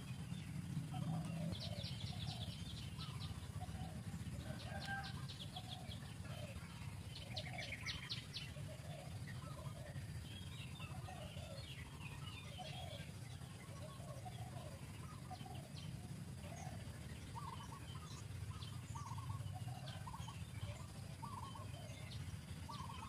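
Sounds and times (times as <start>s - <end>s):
rapid high bird trills: 0.0s - 23.0s
steady low rumble: 0.0s - 23.0s.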